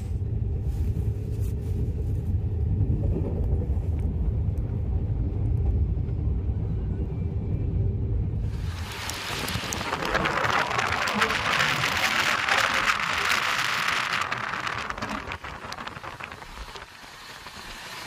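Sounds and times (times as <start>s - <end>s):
train running noise: 0.0s - 18.0s.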